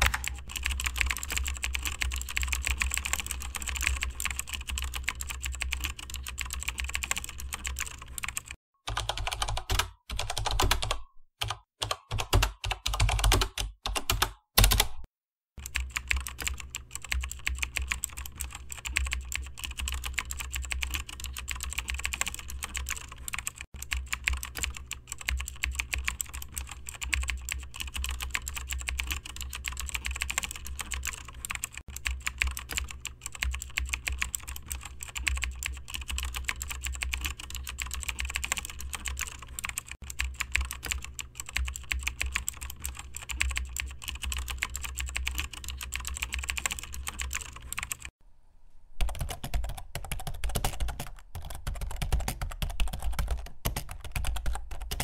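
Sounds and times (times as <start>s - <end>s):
rapid typing on keyboard: 0.0s - 48.2s, 49.0s - 55.0s.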